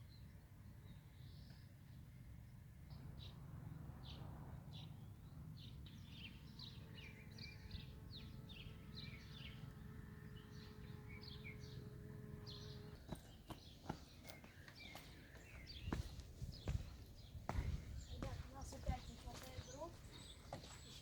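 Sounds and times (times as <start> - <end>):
small birds chirping: 4.0 - 21.0.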